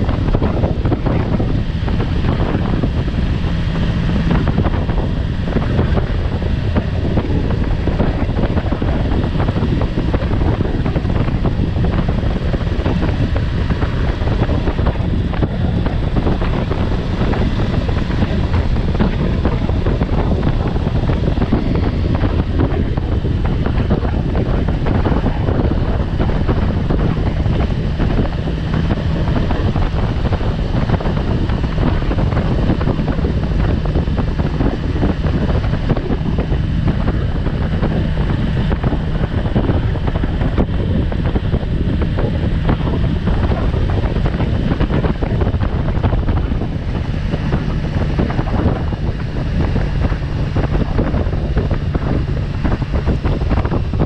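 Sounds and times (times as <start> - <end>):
motorcycle engine and tyre drone: 0.0 - 54.0
wind buffeting microphone: 0.0 - 54.0.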